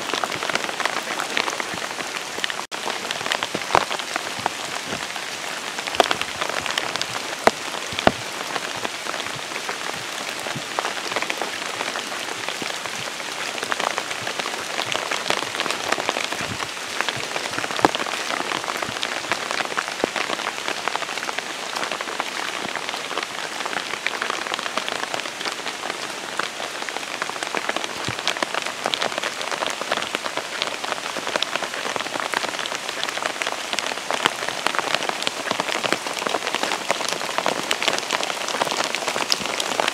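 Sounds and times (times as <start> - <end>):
close raindrop hits: 0.0 - 39.9
heavy rain: 0.0 - 39.9.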